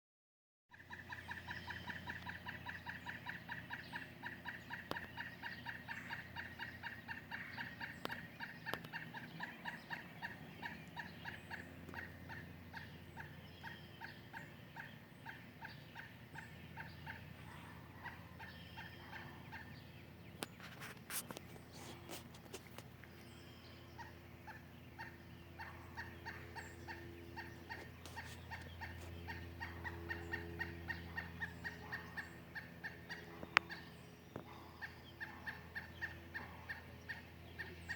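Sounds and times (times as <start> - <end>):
woodpecker alarm calls: 0.7 - 37.9
steady low hum: 0.8 - 37.9.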